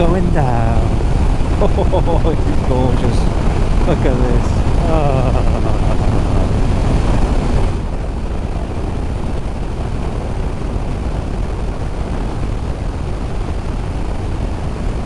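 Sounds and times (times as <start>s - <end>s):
motorcycle engine drone: 0.0s - 14.6s
wind rushing over microphone: 0.0s - 15.0s.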